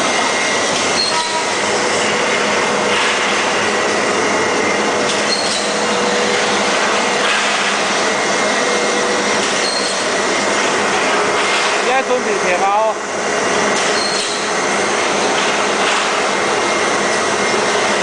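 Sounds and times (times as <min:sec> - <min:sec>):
roll-forming machine din: 0:00.0 - 0:18.0.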